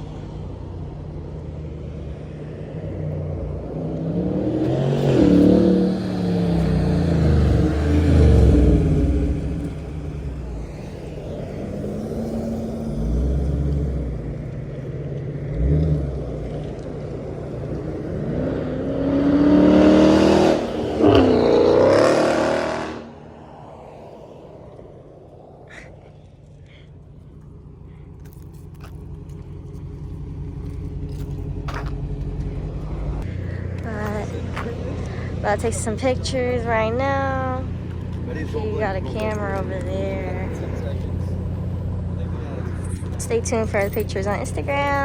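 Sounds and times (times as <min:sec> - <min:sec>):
cars driving past revving: 0:00.0 - 0:45.0.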